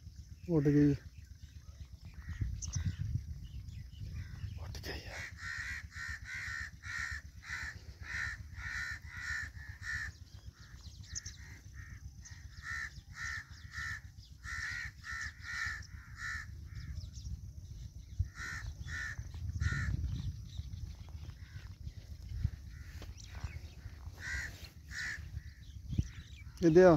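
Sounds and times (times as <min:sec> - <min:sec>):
crows cawing: 0:04.1 - 0:17.1, 0:18.2 - 0:26.9.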